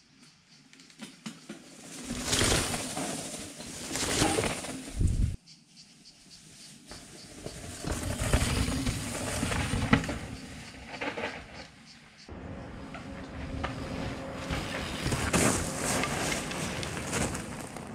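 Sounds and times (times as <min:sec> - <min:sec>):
bike rattling: 0:00.9 - 0:05.4, 0:06.9 - 0:17.9
mountain bike tyres on dirt: 0:01.0 - 0:05.4, 0:06.3 - 0:17.9.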